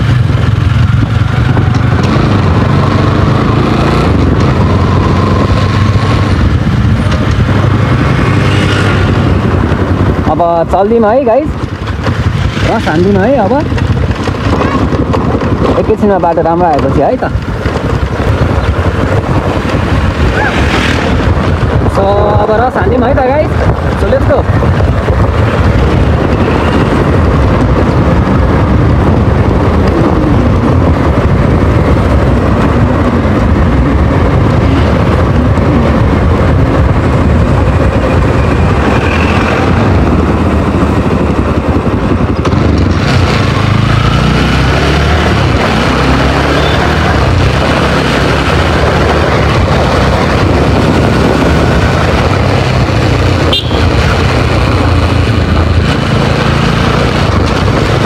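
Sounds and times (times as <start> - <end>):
motorcycle engine revving: 0.0 - 58.0
wind rushing: 0.0 - 58.0.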